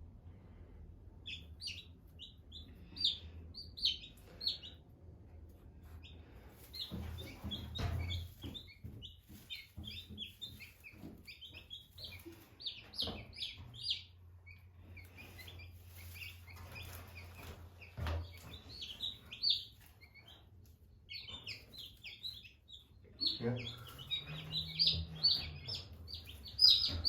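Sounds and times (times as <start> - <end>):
chicks peeping: 0.3 - 27.0.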